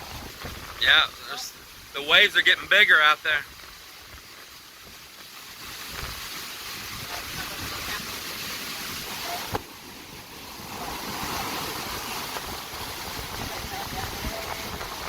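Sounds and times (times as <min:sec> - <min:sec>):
waves washing in: 0:00.0 - 0:15.0.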